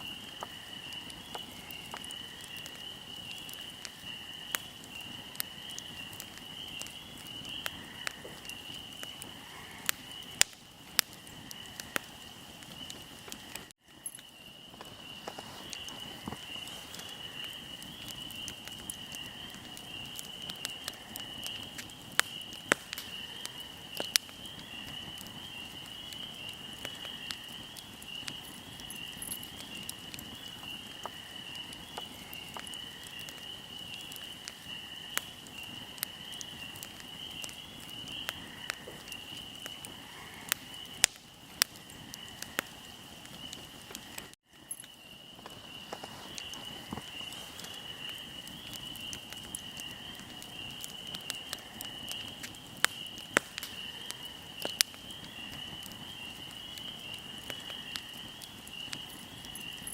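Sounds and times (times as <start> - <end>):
fire crackling and popping: 0.0 - 59.9
insects chirring: 0.0 - 59.9.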